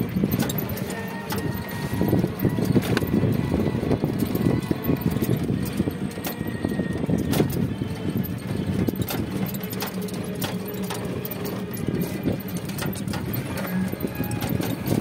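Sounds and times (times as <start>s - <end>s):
body rattling over rough road: 0.0s - 15.0s
vehicle motor humming: 0.0s - 15.0s.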